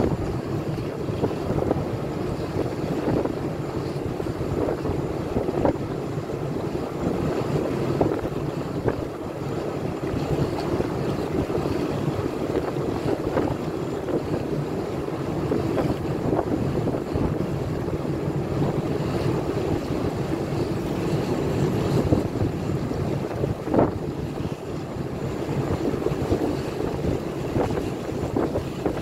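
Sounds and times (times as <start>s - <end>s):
waves splashing: 0.0s - 29.0s
wind buffeting microphone: 0.0s - 29.0s.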